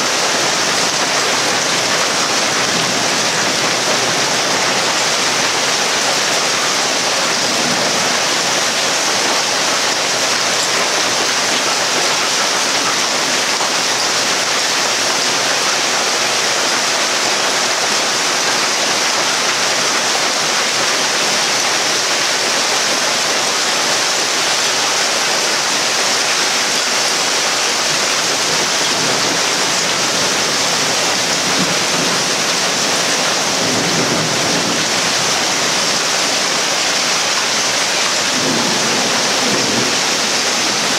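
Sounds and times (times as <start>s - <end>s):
hail and rain pelting down: 0.0s - 40.9s.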